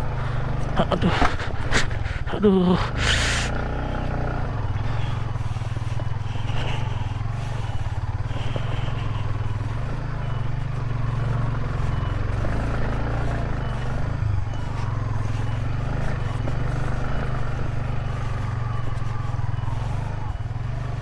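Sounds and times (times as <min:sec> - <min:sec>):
motorcycle engine at low revs: 0:00.0 - 0:21.0
motorcycle rattles and scrapes: 0:00.0 - 0:21.0.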